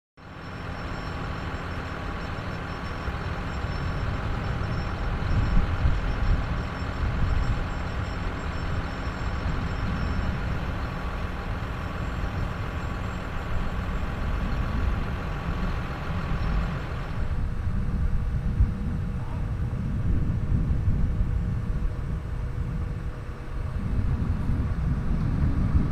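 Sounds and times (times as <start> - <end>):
harvester machinery noise: 0.2 - 25.9
tractor engine drone: 0.2 - 25.9.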